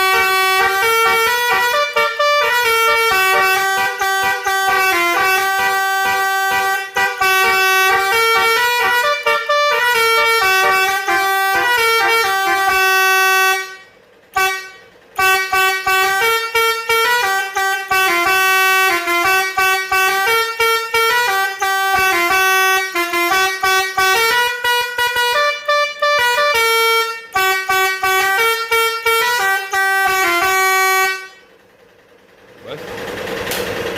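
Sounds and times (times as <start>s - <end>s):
electronic musical horn tune: 0.0s - 31.5s.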